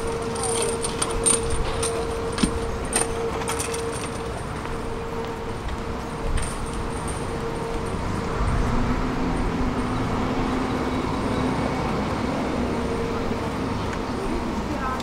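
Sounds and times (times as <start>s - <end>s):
road traffic: 0.0s - 15.0s
vehicle engine humming: 0.0s - 15.0s.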